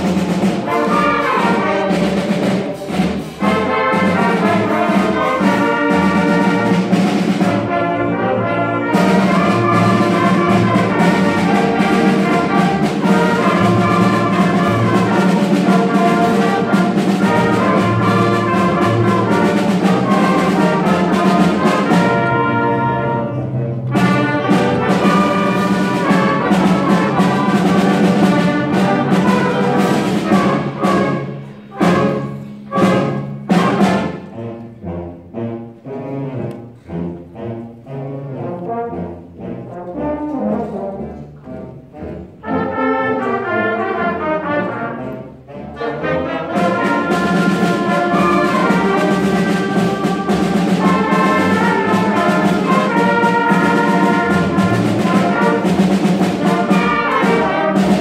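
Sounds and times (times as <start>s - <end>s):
concert band playing a march: 0.0s - 58.0s.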